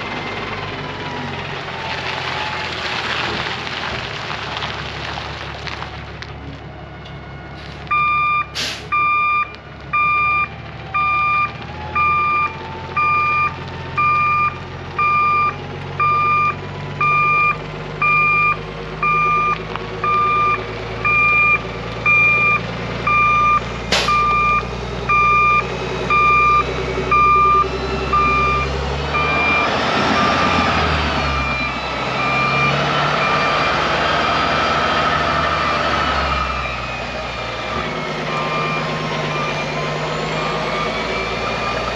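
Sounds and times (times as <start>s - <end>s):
truck engine running low: 0.0s - 41.9s
truck back-up alarm beeping: 7.7s - 41.9s.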